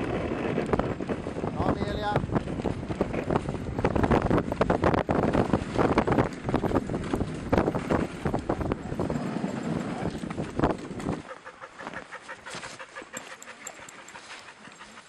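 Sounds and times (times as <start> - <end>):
sled runners clattering on snow: 0.0 - 15.0
wind rumbling on microphone: 0.0 - 15.0.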